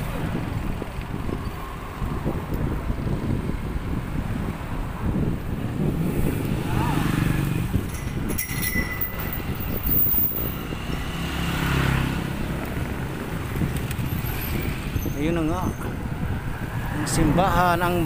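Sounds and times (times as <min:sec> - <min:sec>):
street traffic: 0:00.0 - 0:18.0
wind rumbling on microphone: 0:00.0 - 0:18.0.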